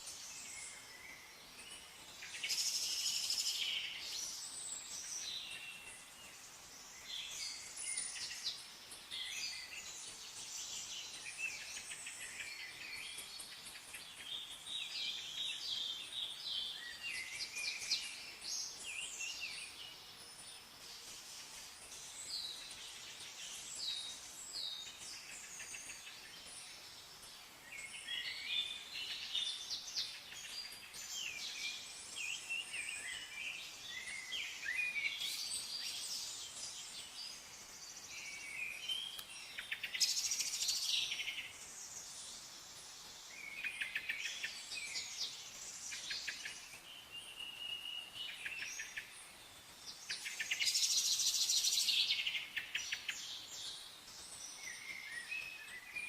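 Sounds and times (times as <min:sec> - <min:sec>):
faint steady hiss: 0:00.0 - 0:56.0
songbirds chirping and singing: 0:00.0 - 0:56.0.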